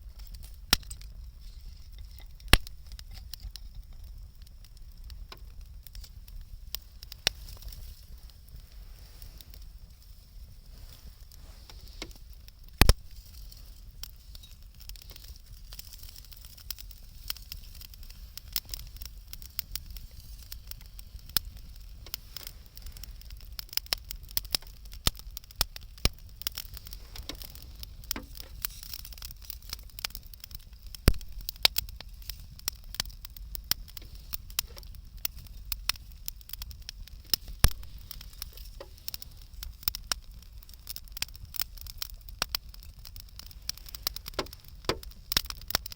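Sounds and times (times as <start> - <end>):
burning wood popping: 0.0 - 45.9
wood bonfire crackling: 0.0 - 45.9.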